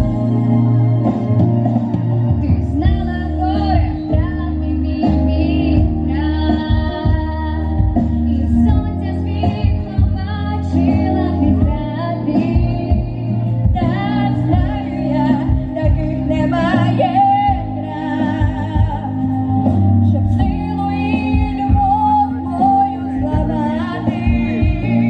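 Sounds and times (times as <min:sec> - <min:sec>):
instrumental accompaniment: 0:00.0 - 0:25.0
women singing: 0:02.3 - 0:25.0.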